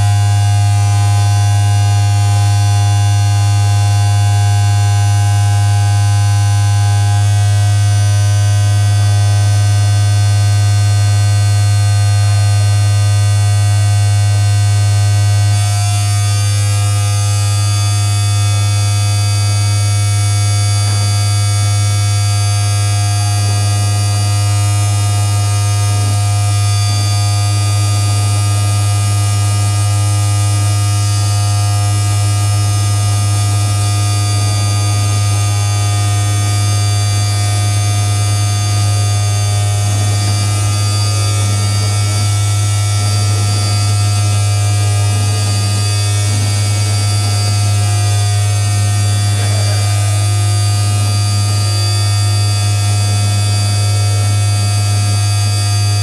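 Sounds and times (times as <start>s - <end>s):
electronic drone: 0.0s - 56.0s.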